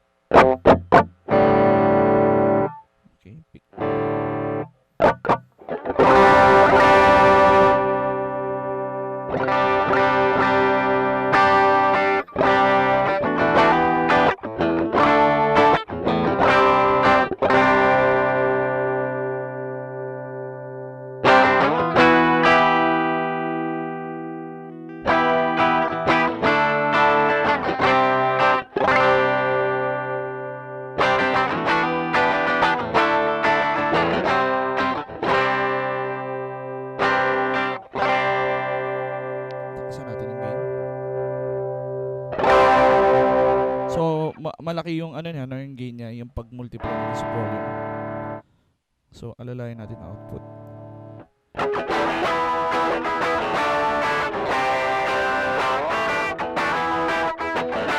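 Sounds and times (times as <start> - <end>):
overdriven electric guitar strumming: 0.0 - 44.4, 46.8 - 48.4, 49.9 - 57.9.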